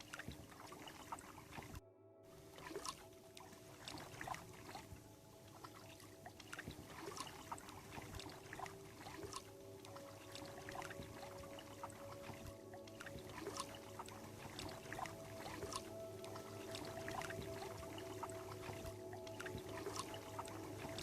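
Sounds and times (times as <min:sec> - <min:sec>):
paddle splashing water: 0:00.0 - 0:21.0.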